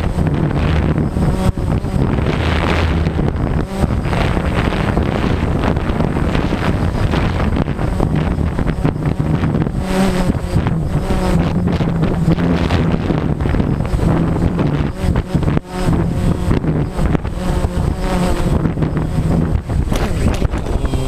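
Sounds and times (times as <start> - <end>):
drone motors whining: 0.0 - 21.0
wind buffeting microphone: 0.0 - 21.0.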